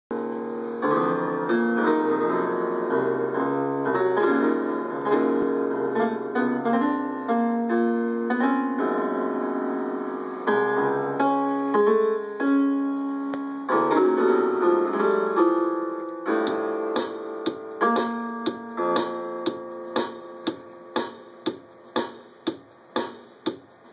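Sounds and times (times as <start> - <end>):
electronic keyboard notes: 0.1 - 23.9.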